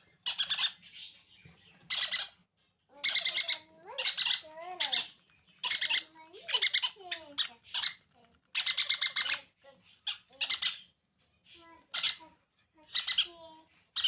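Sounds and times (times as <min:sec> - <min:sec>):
parrot chicks squawking begging calls: 0:00.0 - 0:14.0.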